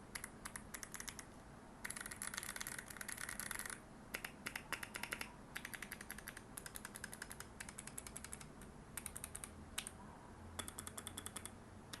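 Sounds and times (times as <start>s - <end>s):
typing on mechanical keyboard: 0.1s - 10.0s, 10.6s - 12.0s.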